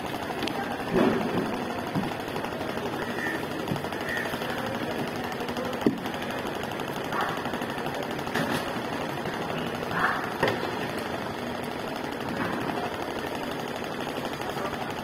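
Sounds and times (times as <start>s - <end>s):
engine running with fast rattle: 0.0s - 15.0s.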